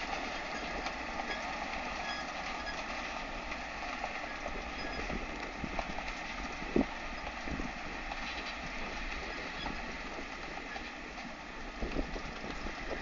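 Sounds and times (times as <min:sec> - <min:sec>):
tractor engine and machinery running: 0:00.0 - 0:13.0.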